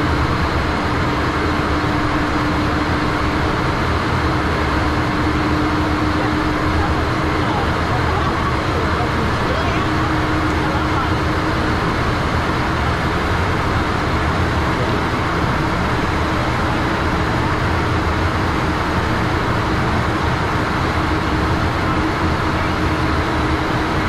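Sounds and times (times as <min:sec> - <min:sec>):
airflow and jet engine noise: 0:00.0 - 0:24.0.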